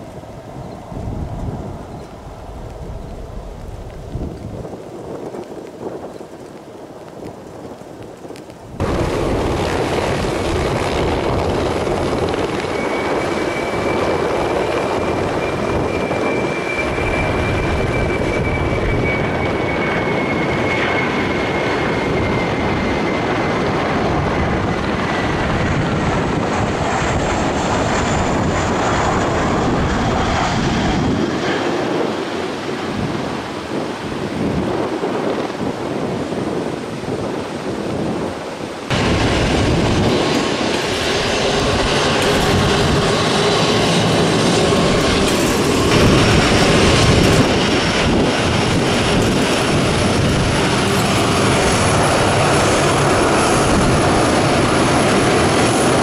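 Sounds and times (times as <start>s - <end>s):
jet engine rumble with whine: 0.0s - 56.0s.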